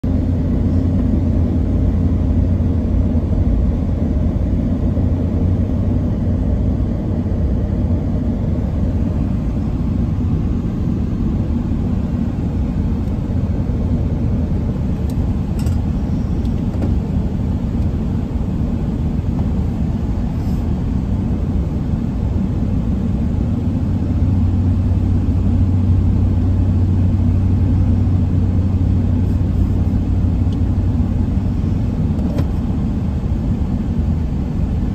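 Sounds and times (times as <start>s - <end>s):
truck engine drone: 0.0s - 34.9s.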